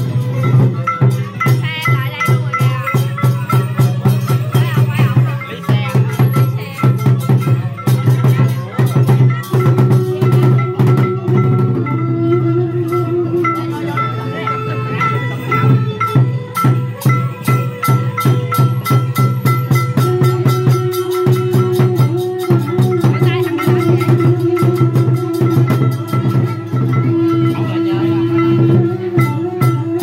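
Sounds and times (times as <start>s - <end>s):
hand drums: 0.0s - 30.0s
held higher note: 0.0s - 30.0s
small hand cymbals: 0.0s - 30.0s.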